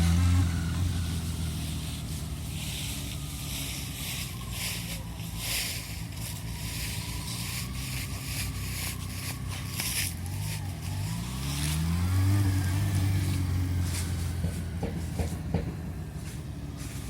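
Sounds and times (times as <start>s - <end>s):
motorcycle engine accelerating: 0.0s - 5.6s, 6.2s - 17.0s.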